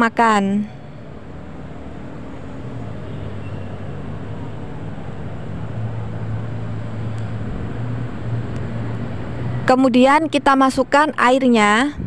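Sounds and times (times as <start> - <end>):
rushing background noise: 0.0 - 12.0.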